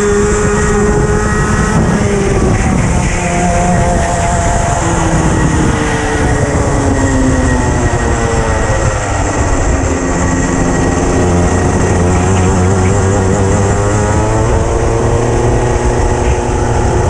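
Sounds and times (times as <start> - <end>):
racing kart engine revving: 0.0 - 17.0.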